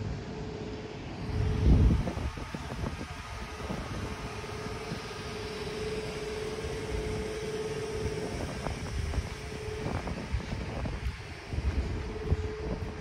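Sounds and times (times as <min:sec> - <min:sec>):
electric locomotive hum: 0:00.0 - 0:13.0
low rumble: 0:01.1 - 0:13.0
wind on microphone: 0:01.1 - 0:13.0.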